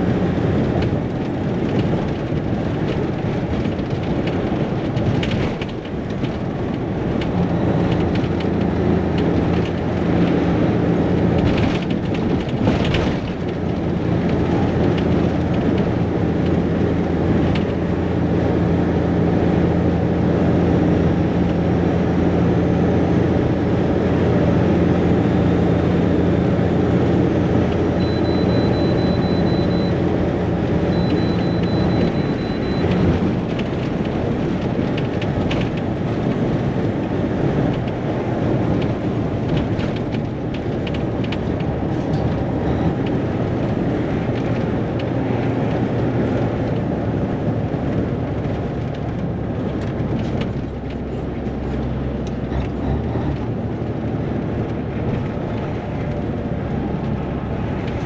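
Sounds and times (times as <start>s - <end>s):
diesel engine running: 0.0s - 58.0s
road and wind noise: 0.0s - 58.0s.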